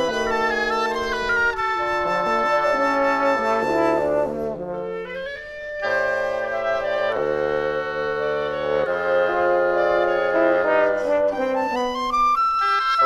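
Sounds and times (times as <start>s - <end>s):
woodwind quintet playing chords: 0.0s - 13.0s.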